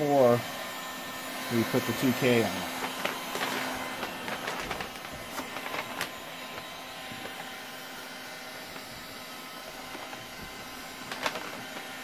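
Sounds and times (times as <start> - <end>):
heat gun fan blowing: 0.0 - 12.0.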